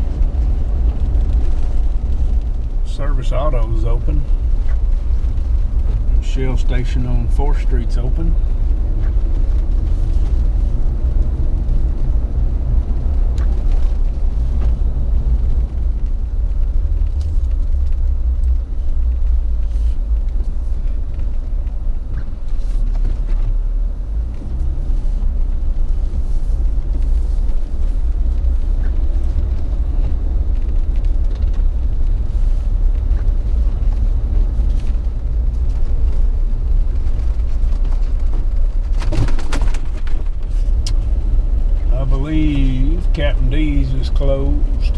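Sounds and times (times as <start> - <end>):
engine and road rumble: 0.0 - 44.9.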